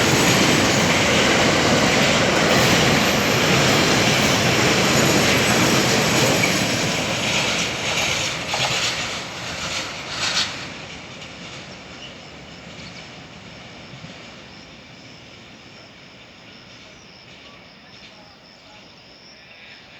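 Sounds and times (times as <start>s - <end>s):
train clattering: 0.0s - 18.3s
freight train rolling past: 0.0s - 18.9s.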